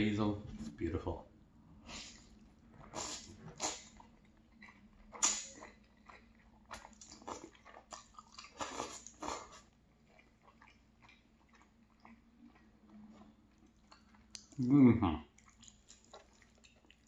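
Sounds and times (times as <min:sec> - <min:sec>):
person chewing pasta: 0:01.7 - 0:17.0.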